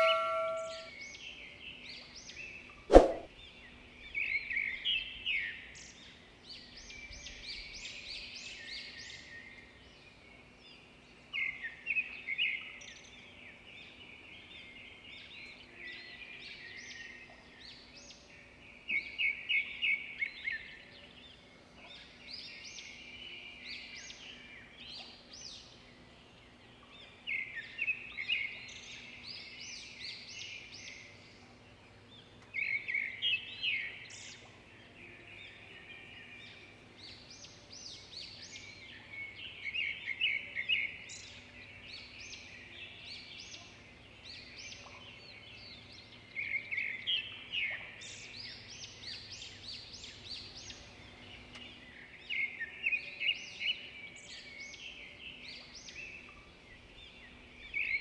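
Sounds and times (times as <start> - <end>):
birds singing: 0.0 - 58.0.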